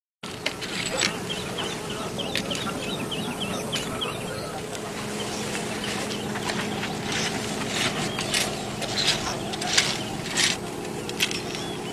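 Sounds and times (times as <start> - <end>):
birds chirping: 0.2 - 11.9
low steady hum: 0.2 - 11.9
rushing background noise: 0.2 - 11.9.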